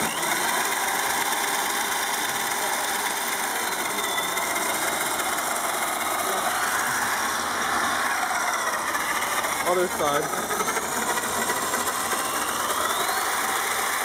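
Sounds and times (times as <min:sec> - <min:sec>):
whir of spinning gears and motors: 0:00.0 - 0:14.0.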